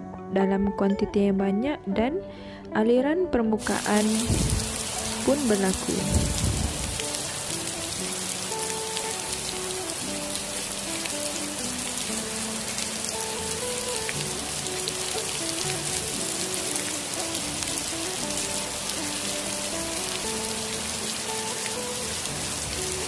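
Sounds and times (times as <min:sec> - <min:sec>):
soft background music: 0:00.0 - 0:23.0
rain falling on soil and puddles: 0:03.6 - 0:23.0.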